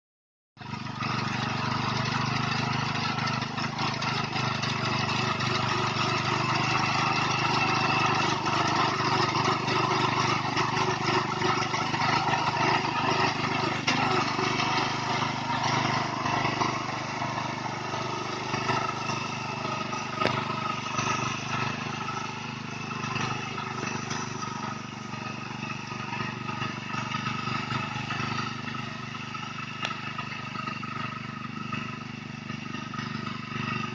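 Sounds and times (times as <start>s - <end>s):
harvester engine drone: 0.6s - 33.9s.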